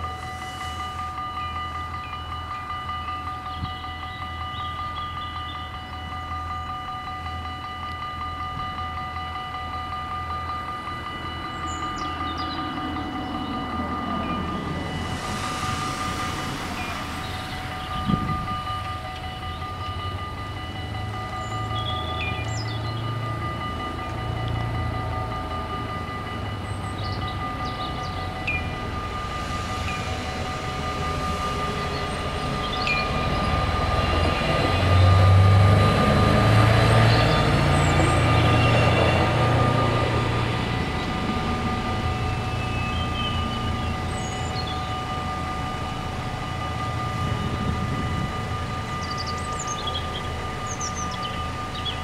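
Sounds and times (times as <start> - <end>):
diesel railcar approaching: 0.0 - 52.0
level-crossing bells ringing: 0.0 - 52.0
birds chirping: 1.4 - 6.3, 10.2 - 35.2, 36.4 - 41.3, 41.9 - 45.5, 48.4 - 52.0.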